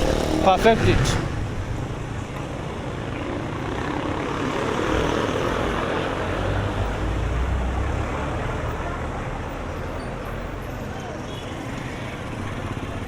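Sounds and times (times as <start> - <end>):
passing motor vehicle rumble: 0.0 - 13.0.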